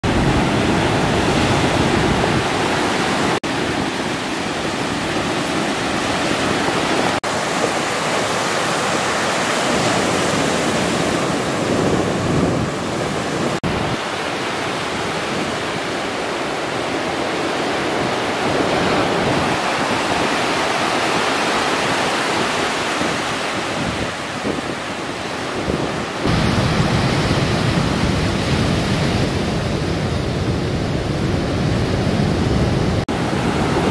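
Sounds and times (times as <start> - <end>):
ocean surf breaking: 0.0 - 33.9.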